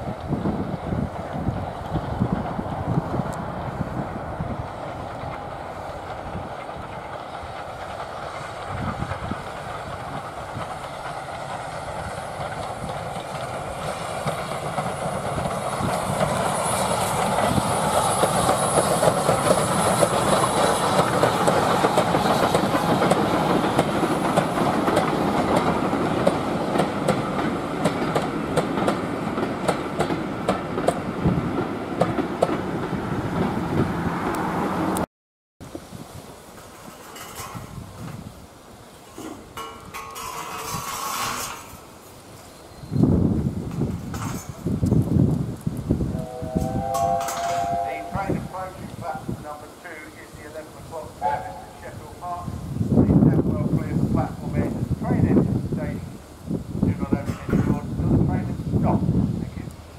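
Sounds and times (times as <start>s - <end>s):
steam train passing: 0.0s - 59.9s
wheels clacking over rail joints: 0.1s - 35.0s, 36.3s - 42.7s, 43.4s - 52.6s, 57.0s - 58.5s.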